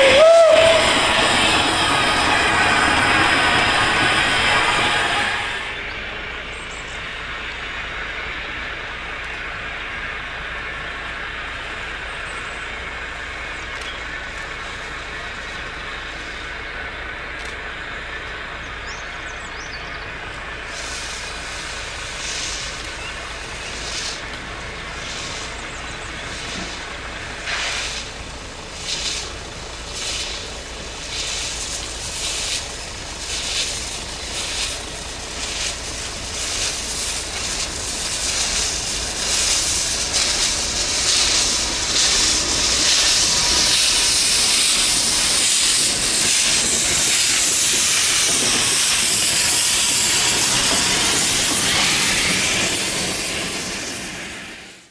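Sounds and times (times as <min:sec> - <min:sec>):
steady running noise: 0:00.0 - 0:54.9
steam locomotive chuffs: 0:00.0 - 0:54.9.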